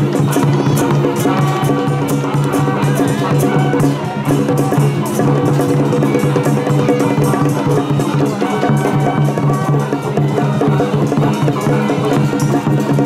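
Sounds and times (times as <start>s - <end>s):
loud music with drum beat: 0.0s - 13.0s.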